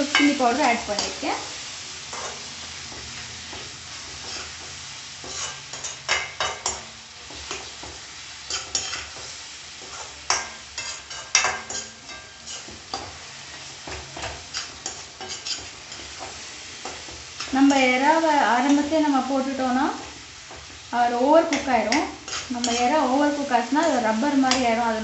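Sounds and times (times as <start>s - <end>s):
metal spatula scraping a pan: 0.0s - 19.0s, 21.4s - 24.8s
food sizzling: 0.0s - 25.0s.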